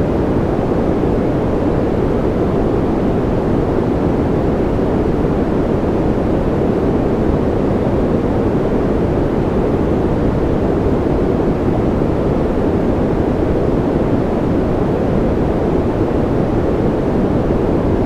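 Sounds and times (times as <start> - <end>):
deep steady noise rush: 0.0 - 18.0.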